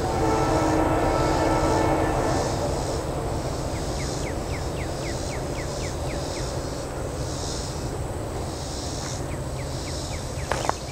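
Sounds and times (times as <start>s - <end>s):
insects buzzing: 0.0s - 10.9s.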